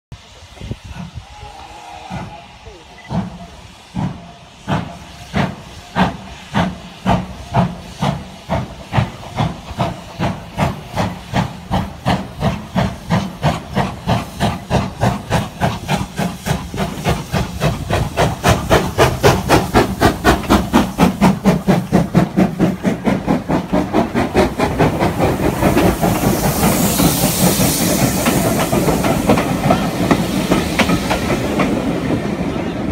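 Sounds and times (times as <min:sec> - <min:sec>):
loud hiss of steam: 0:00.1 - 0:32.9
steam locomotive chuffing: 0:00.1 - 0:32.9.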